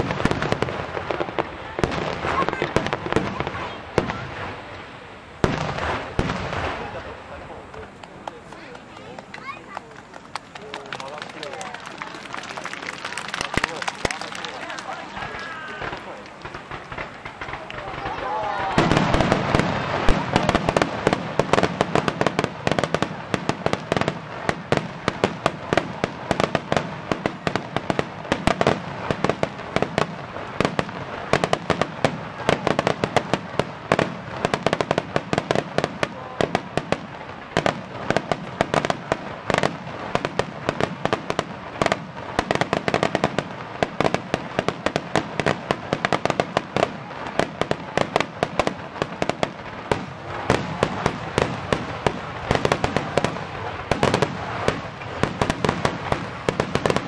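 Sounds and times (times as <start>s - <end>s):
fireworks bangs and cracks: 0.0s - 57.0s.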